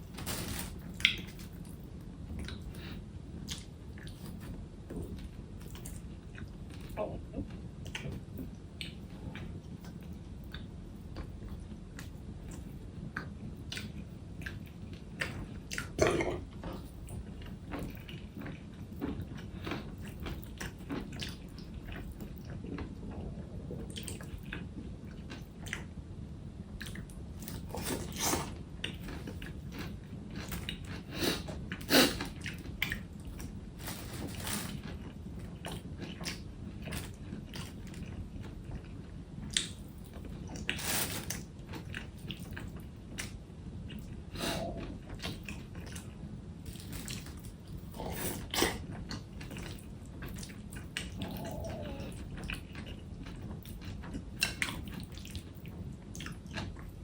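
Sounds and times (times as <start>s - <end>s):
person chewing food: 2.3s - 25.9s, 26.8s - 57.0s.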